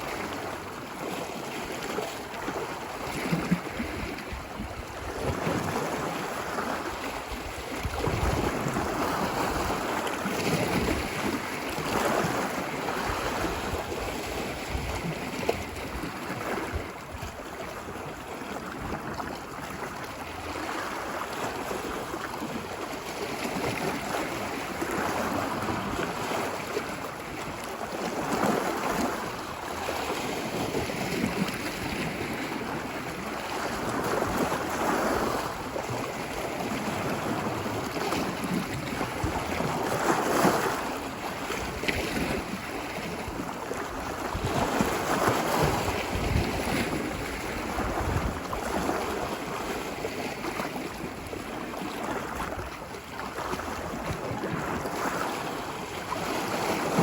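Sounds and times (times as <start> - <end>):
ocean waves washing onto beach: 0.0 - 57.0.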